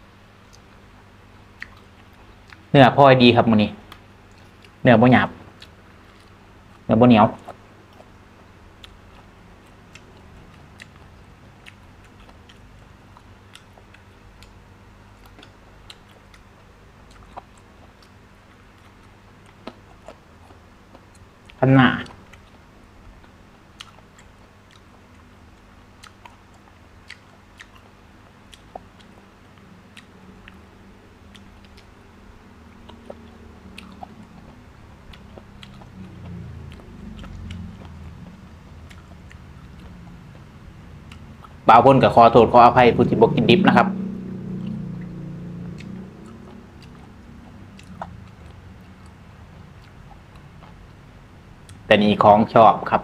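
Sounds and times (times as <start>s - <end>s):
wet chewing: 1.6s - 2.7s, 3.8s - 4.8s, 5.5s - 42.4s, 44.0s - 51.9s.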